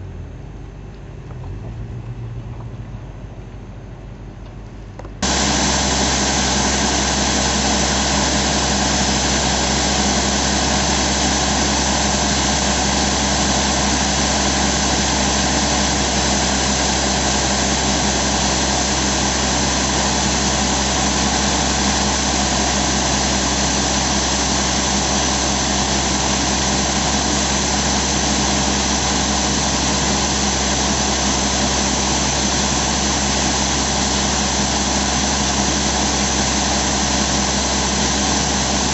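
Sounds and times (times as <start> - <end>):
drill rig engine running: 5.2 - 38.9.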